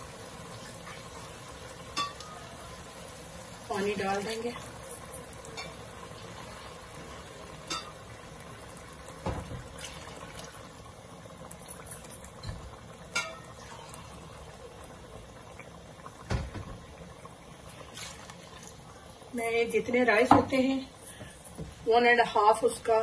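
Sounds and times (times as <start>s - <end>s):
curry bubbling in a pot: 0.0s - 23.0s.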